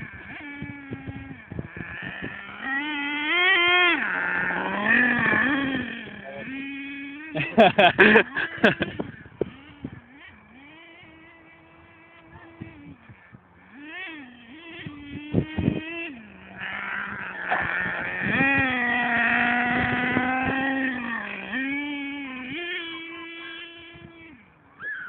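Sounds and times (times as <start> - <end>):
nitro engine revving: 0.0 - 25.0.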